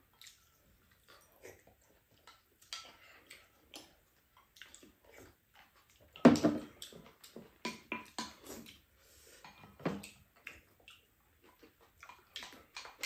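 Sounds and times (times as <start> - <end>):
chewing and slurping: 0.1 - 13.0.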